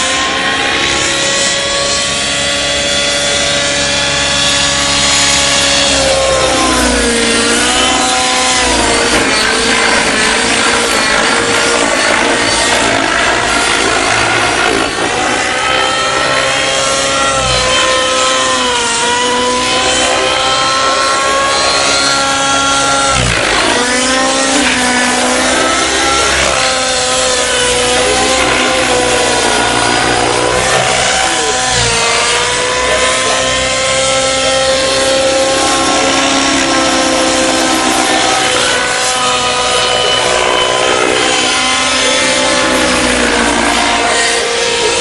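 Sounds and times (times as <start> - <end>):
model helicopter engine whine: 0.0 - 45.0.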